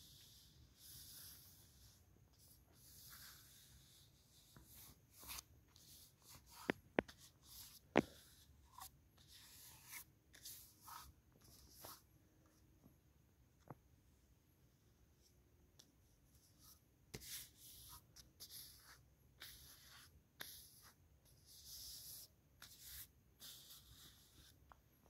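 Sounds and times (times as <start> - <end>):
hand rubbing paper poster: 0.0 - 12.6, 16.4 - 24.7.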